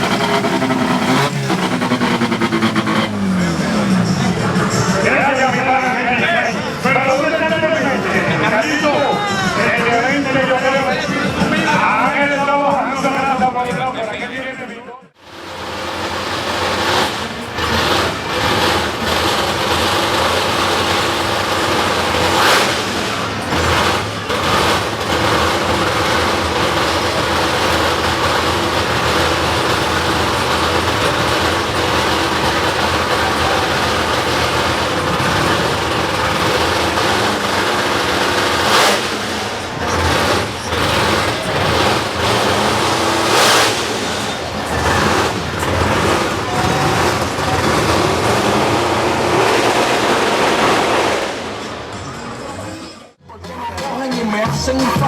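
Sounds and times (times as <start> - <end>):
car engines running loudly: 0.0 - 53.2.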